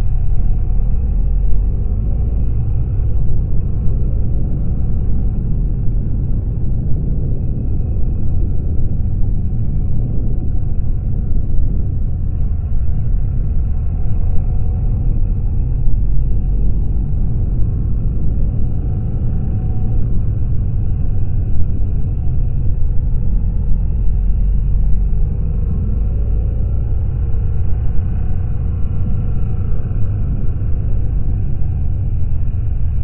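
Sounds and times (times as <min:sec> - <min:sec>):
wind noise on microphone: 0:00.0 - 0:33.0.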